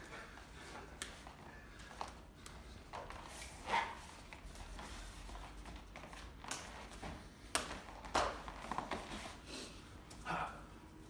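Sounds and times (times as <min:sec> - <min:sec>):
feet shuffling on floor: 0:00.4 - 0:09.5.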